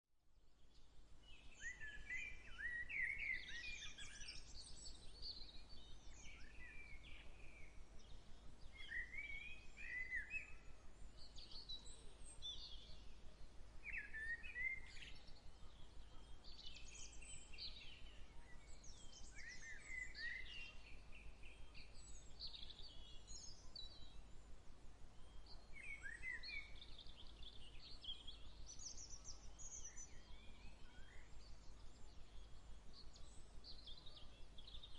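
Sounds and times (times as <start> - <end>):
songbirds singing: 0.4 - 34.9.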